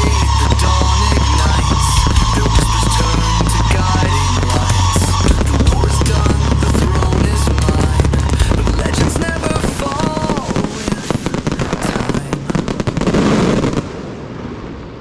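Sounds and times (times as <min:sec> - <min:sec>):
firecrackers crackling: 0:00.0 - 0:14.4.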